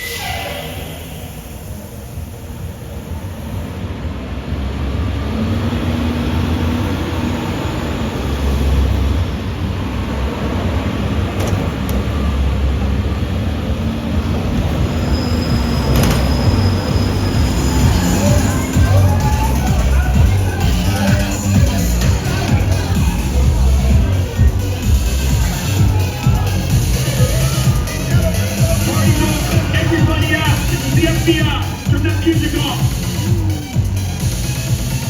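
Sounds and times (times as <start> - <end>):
tram rumbling: 0.0 - 35.0.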